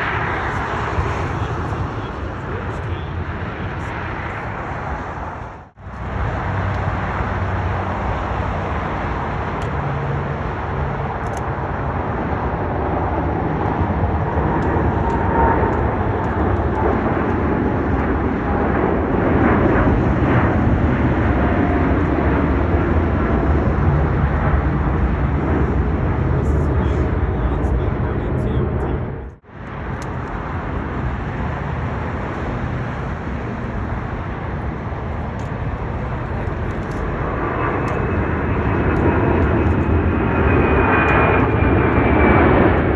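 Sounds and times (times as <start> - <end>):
jet airliner engine noise: 0.0 - 42.9.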